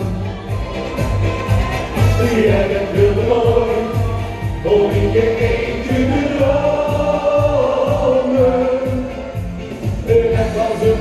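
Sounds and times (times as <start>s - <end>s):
voices singing over a beat: 0.0s - 11.0s.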